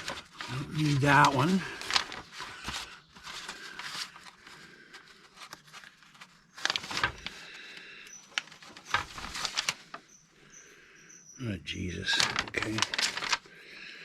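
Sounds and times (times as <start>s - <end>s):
paper rustling and crackling: 0.0s - 10.2s, 12.0s - 13.7s.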